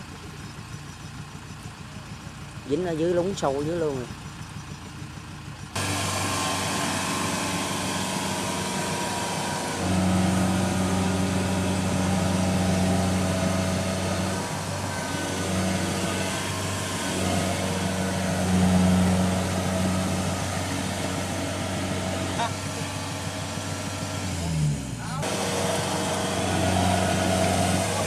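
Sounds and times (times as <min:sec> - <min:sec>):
heavy diesel engine under load: 0:00.0 - 0:28.0.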